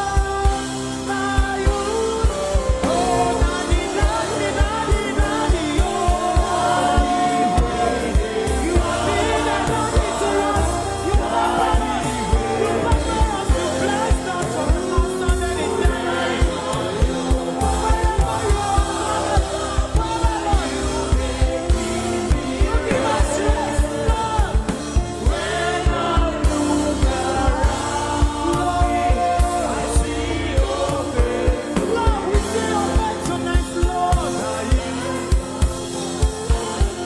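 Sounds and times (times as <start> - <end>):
band with steady drum beat: 0.0 - 37.0
group singing: 0.0 - 37.0.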